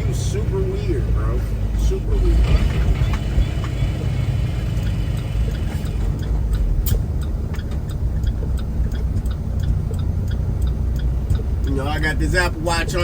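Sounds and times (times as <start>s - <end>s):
light regular ticking: 0.0s - 13.0s
truck engine and road rumble: 0.0s - 13.0s.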